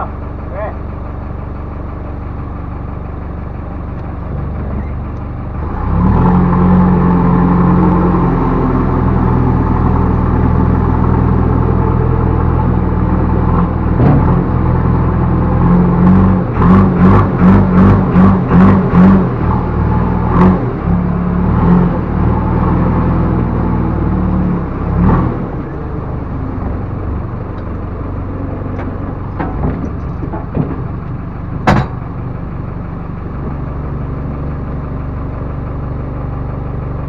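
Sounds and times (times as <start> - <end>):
backhoe diesel engine revving: 0.0 - 37.0.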